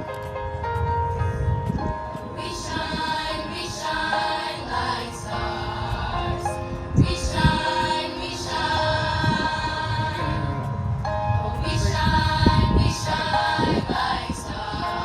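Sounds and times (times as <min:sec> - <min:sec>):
choir singing sustained notes: 0:01.1 - 0:15.0.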